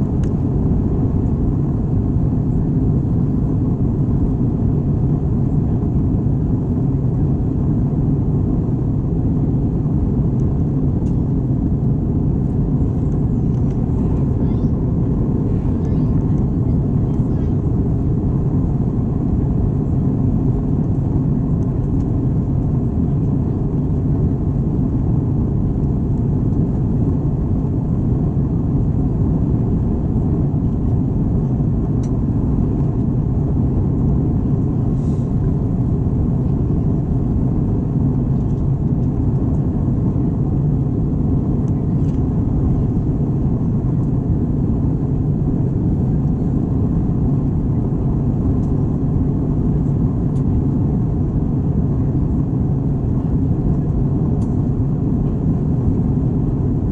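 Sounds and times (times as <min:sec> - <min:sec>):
airliner cabin rumble: 0:00.0 - 0:56.9.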